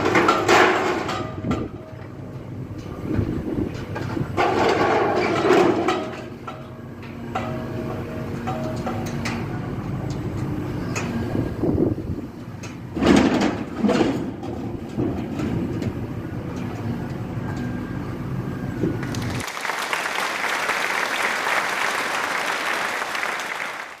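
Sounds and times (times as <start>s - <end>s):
backhoe engine running: 0.0s - 20.6s.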